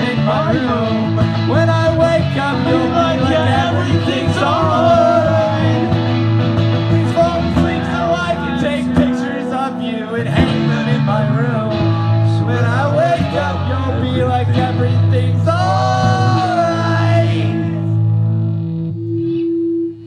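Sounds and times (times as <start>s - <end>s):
person singing: 0.0s - 18.0s
live rock band playing: 0.0s - 18.8s
electric guitars: 0.0s - 20.0s.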